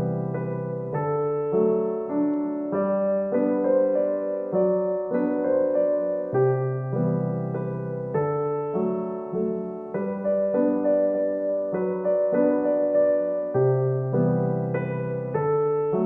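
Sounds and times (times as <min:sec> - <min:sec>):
gentle piano tune: 0:00.0 - 0:16.0.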